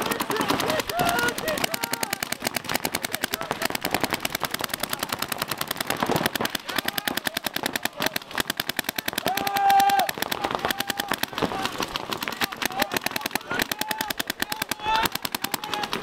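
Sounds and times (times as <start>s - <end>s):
paintball markers firing rapidly: 0.0s - 16.0s.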